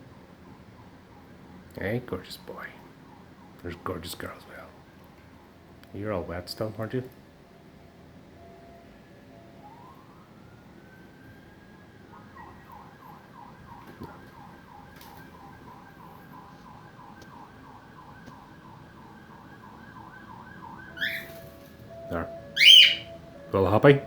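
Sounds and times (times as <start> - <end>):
faint emergency siren wail and yelp: 0.0 - 6.4, 7.2 - 24.0.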